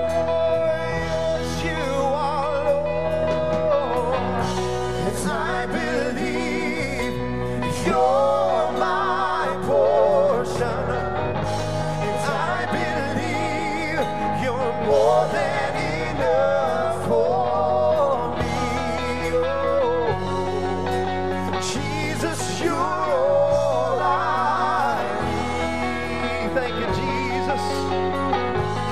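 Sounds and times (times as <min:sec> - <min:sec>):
drums: 0:00.0 - 0:28.9
electric guitars: 0:00.0 - 0:28.9
keyboard: 0:00.0 - 0:28.9
man singing with vibrato: 0:00.0 - 0:28.9.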